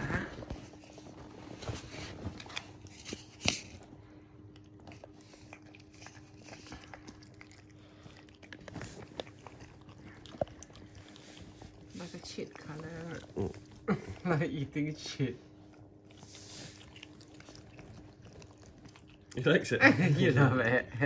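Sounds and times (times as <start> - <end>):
puppy licking and chewing: 0.1 - 20.8.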